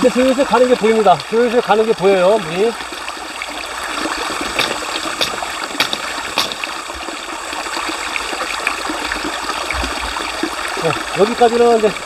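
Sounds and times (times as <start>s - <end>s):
stream trickling over rocks: 0.0s - 12.0s.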